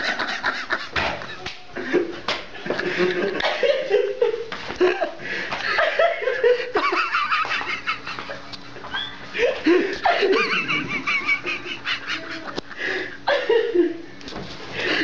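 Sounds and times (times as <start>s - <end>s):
people laughing and giggling: 0.0s - 14.1s.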